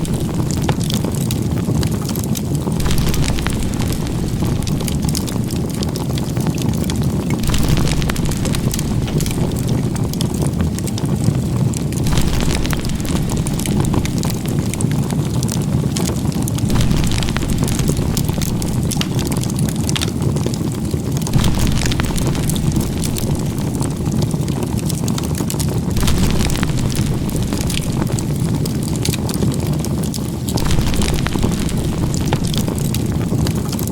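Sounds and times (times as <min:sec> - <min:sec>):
campfire crackling: 0:00.0 - 0:33.9
low fire rumble: 0:00.0 - 0:33.9.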